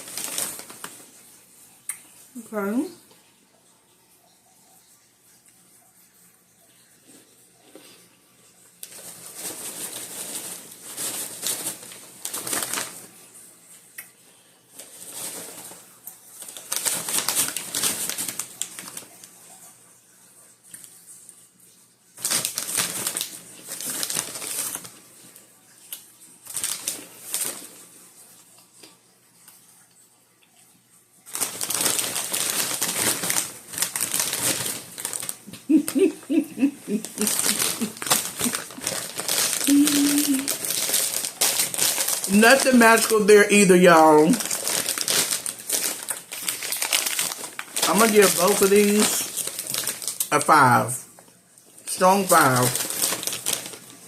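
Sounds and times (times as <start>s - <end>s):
popcorn crinkling and crunching: 0.0s - 3.0s, 8.7s - 19.6s, 22.1s - 29.6s, 31.2s - 54.0s.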